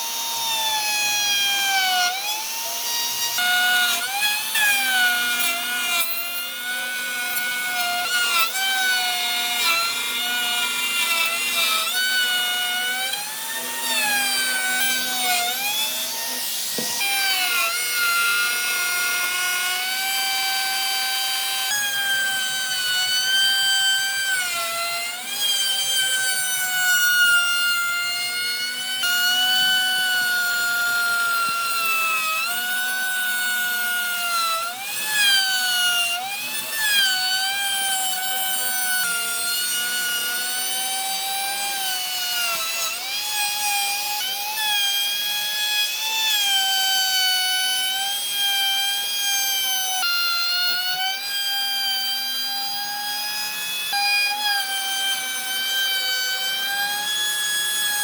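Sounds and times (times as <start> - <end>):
power tool whining cutting wood: 0.0 - 58.0.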